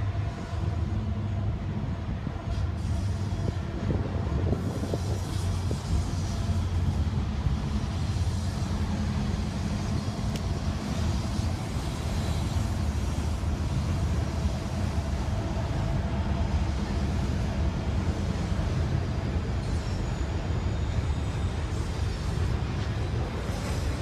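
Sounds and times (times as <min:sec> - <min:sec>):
diesel locomotive drone: 0:00.0 - 0:24.0
freight cars rumbling: 0:00.0 - 0:24.0.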